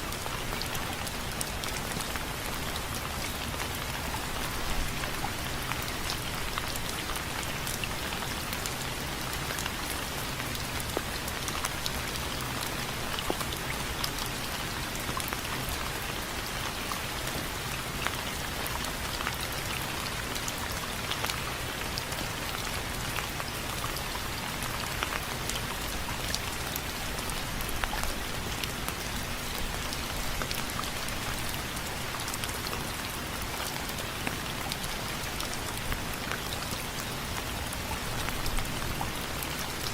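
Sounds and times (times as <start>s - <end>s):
rain falling: 0.0s - 39.9s
raindrops ticking on hard surface: 0.0s - 39.9s.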